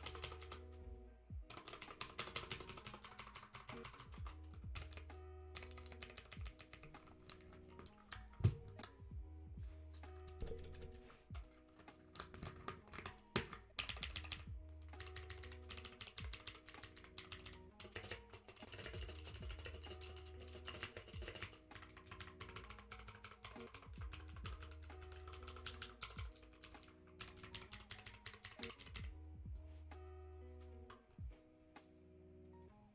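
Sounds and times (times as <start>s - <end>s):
mechanical keyboard typing: 0.0s - 0.7s, 1.4s - 9.0s, 10.1s - 29.2s.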